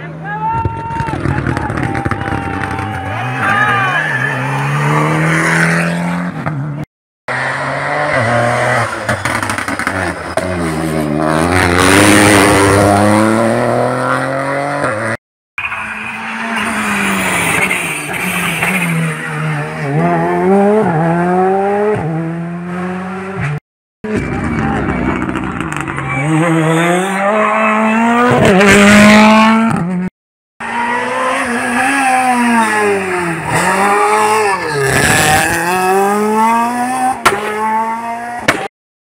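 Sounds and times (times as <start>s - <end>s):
rally car engines revving: 1.4s - 38.7s.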